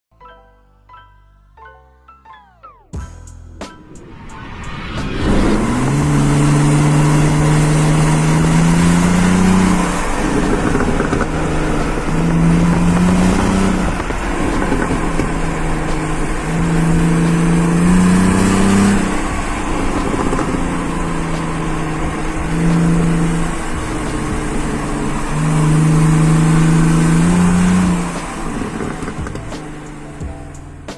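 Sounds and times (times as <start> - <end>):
car engine revving: 3.7 - 30.9.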